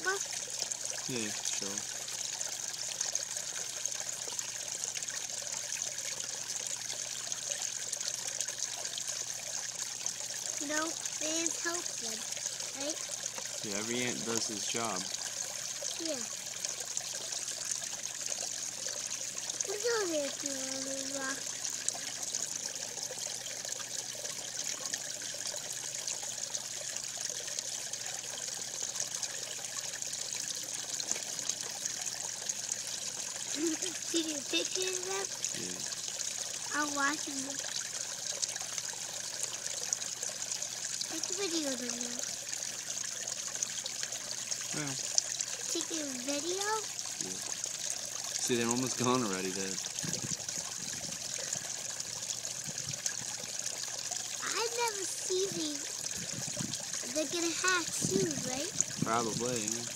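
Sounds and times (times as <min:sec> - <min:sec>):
trickle of running water: 0:00.0 - 0:59.9.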